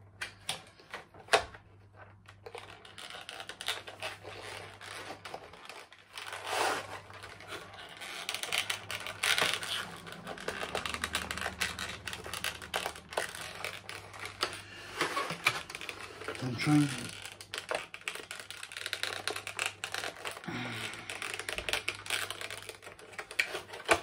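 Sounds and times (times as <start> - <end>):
packaging rustling and crinkling: 0.3 - 24.0.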